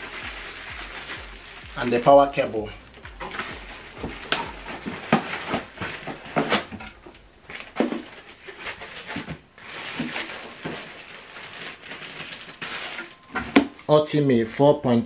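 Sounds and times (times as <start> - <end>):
cardboard and foam rustling: 0.0 - 14.7.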